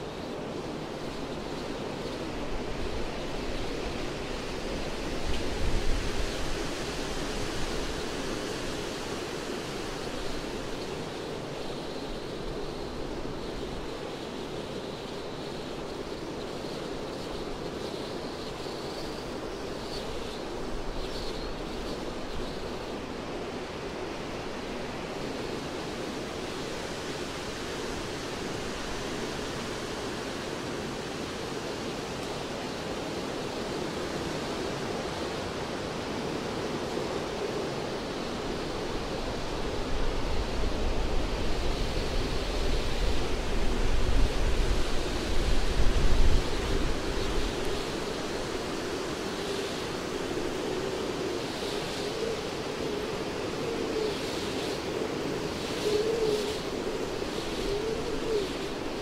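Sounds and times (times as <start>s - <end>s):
wind rushing through treetops: 0.0s - 59.0s.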